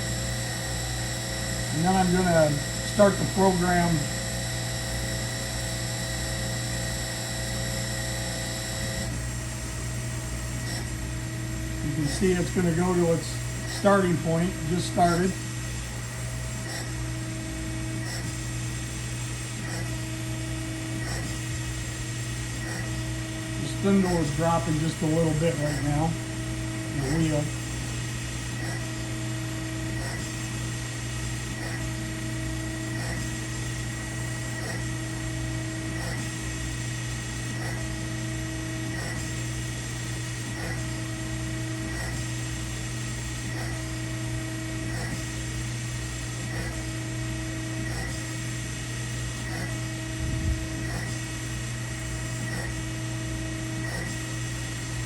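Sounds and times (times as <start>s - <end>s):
grinder spindle hum and whine: 0.0s - 55.0s.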